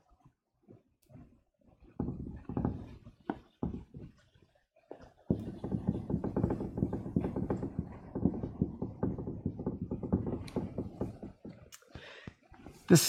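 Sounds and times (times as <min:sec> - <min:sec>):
marker writing on whiteboard: 0:01.1 - 0:11.7.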